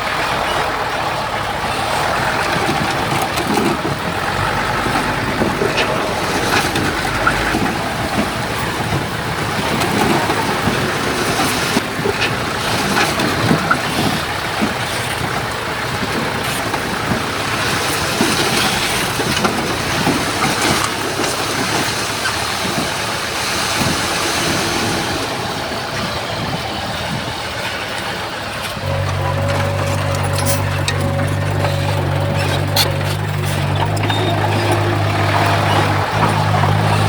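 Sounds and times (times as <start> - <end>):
bulldozer diesel engine under load: 0.0 - 37.0
clanks and rattles of tracks: 0.0 - 37.0.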